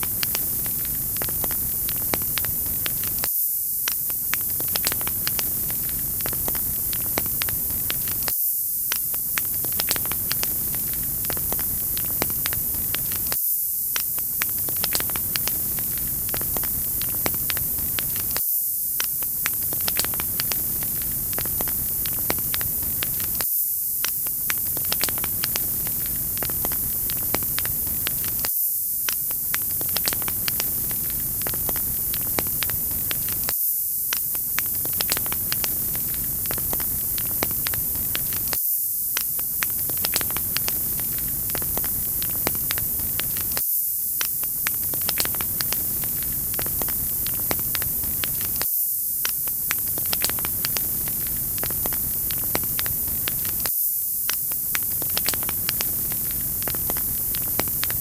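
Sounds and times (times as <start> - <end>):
wood fire crackling: 0.0 - 3.3, 3.9 - 8.3, 9.0 - 18.4, 19.0 - 23.4, 24.0 - 33.5, 34.2 - 38.6, 39.2 - 43.6, 44.2 - 48.6, 49.3 - 53.7, 54.3 - 58.0
steady loud hiss: 0.0 - 58.0.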